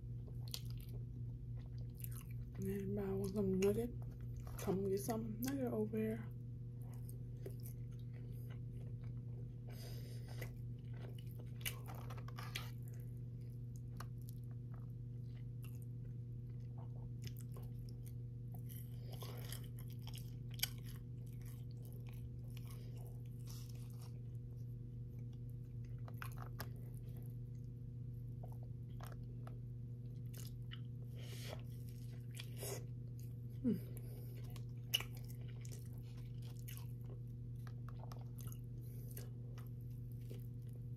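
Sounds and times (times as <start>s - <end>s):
chewing fried chicken: 0.0s - 5.7s, 6.3s - 40.9s.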